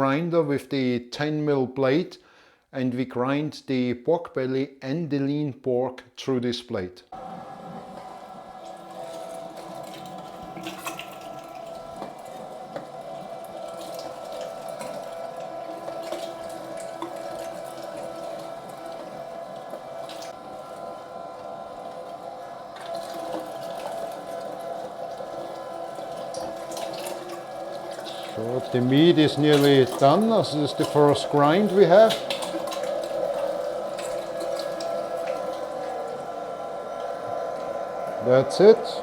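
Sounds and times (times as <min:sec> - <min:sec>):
meat grinder motor running: 0:07.2 - 0:39.0.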